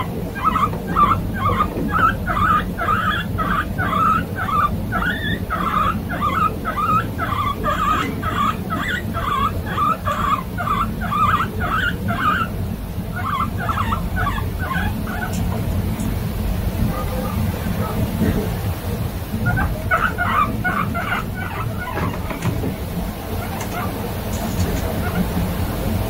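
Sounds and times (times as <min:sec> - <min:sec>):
guinea pig squealing: 0:00.0 - 0:16.2, 0:19.4 - 0:25.5.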